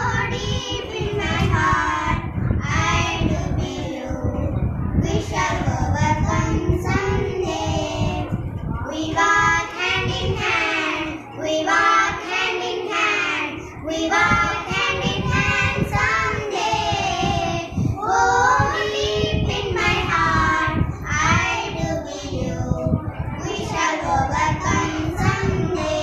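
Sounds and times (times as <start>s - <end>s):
girls singing together: 0.0s - 26.0s.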